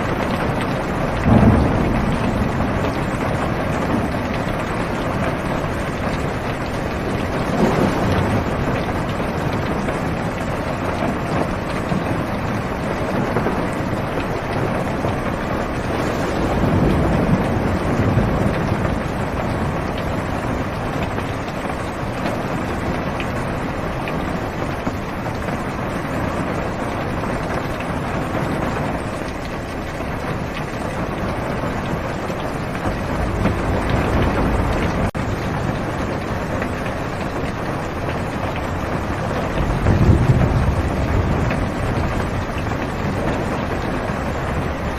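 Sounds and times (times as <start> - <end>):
heavy rain on car roof: 0.0 - 44.9
low thunder rumbles: 0.0 - 44.9.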